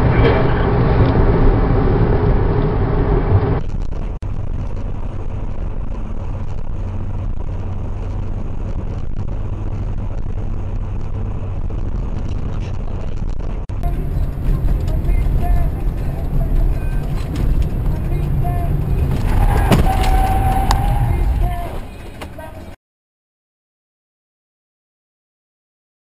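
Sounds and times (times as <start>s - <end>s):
car engine and road rumble: 0.0s - 22.8s
loud road noise: 0.0s - 22.8s.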